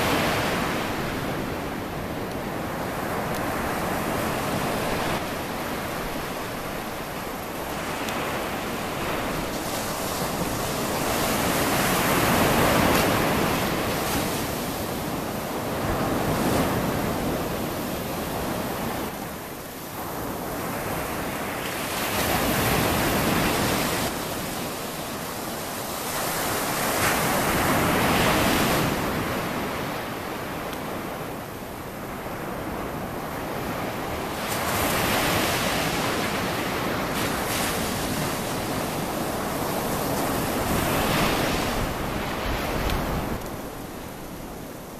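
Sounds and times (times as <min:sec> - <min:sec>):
ocean waves breaking on beach: 0:00.0 - 0:44.9.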